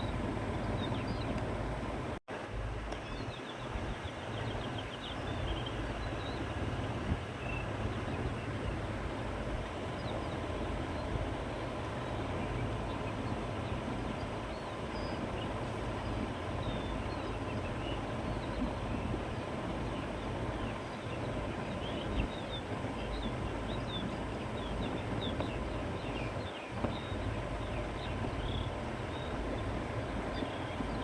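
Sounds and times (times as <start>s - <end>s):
wind through grass and trees: 0.0s - 31.0s.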